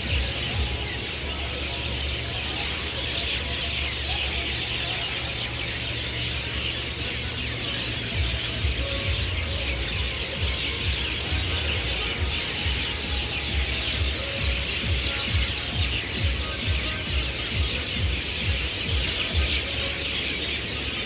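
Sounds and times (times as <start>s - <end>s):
chorus of birds chirping: 0.0s - 21.0s.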